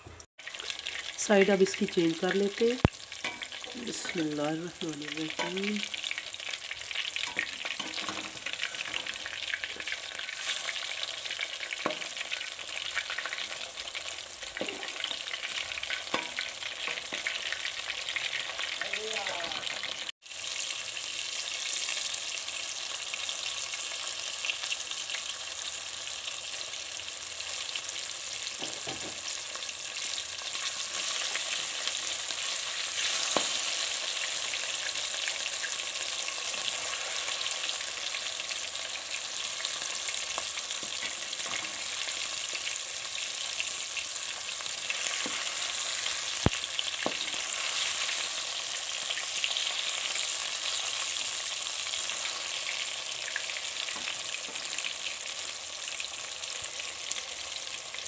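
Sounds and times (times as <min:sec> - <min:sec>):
fish frying in hot oil: 0:00.4 - 0:58.0.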